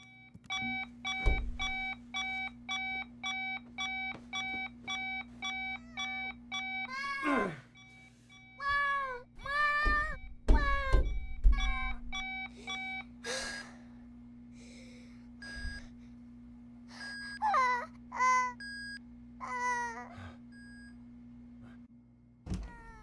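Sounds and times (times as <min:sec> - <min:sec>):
steady hum: 0:00.0 - 0:22.7.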